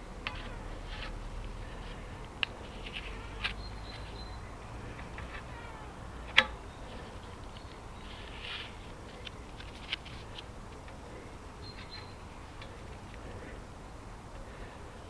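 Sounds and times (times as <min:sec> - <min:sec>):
low steady background: 0:00.0 - 0:15.0.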